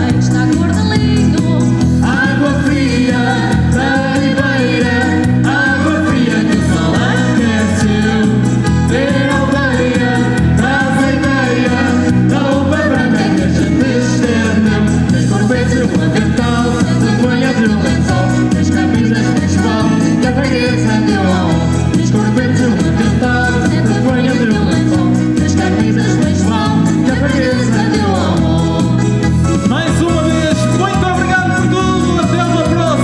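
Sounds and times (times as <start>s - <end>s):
person singing: 0.0s - 29.0s
band playing: 0.0s - 33.0s
bass beat: 0.0s - 33.0s.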